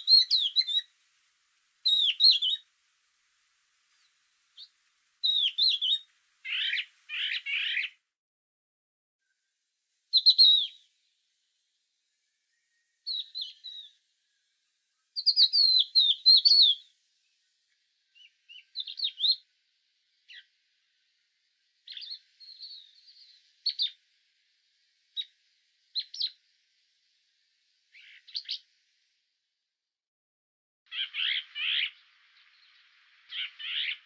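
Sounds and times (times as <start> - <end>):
songbird chirping: 0.0 - 8.1, 10.1 - 29.0, 30.9 - 34.0.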